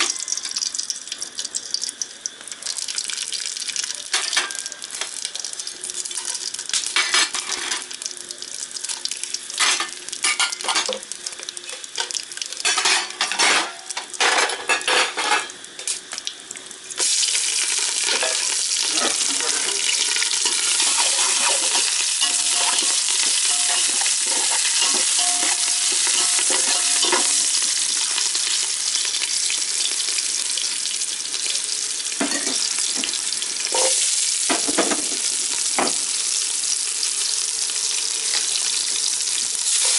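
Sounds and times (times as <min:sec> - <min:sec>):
loud steady sizzle: 0:00.0 - 0:39.9
spices crackling in hot oil: 0:00.0 - 0:39.9.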